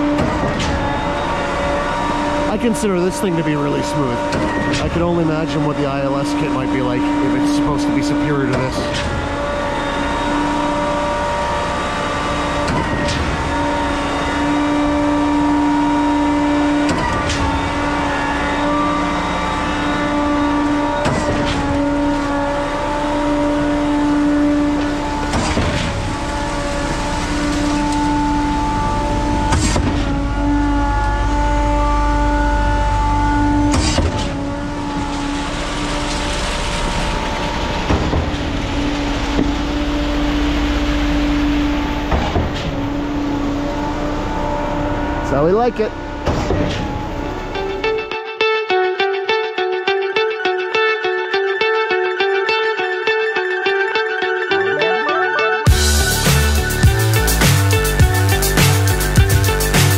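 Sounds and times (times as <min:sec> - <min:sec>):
truck engine running: 0:00.0 - 0:48.1, 0:55.7 - 0:59.9
hydraulic pump whine: 0:00.0 - 0:48.6, 0:51.3 - 0:59.9.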